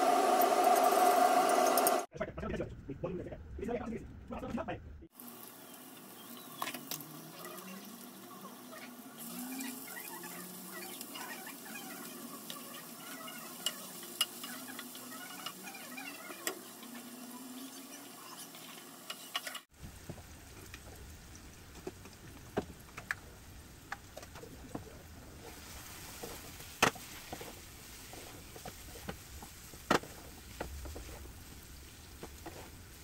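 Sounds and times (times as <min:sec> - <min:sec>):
onions sizzling in a pan: 0:05.1 - 0:33.0.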